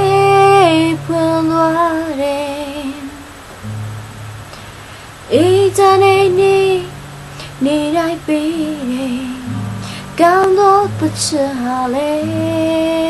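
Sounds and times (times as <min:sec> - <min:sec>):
high voice singing: 0:00.0 - 0:03.4, 0:04.6 - 0:13.0.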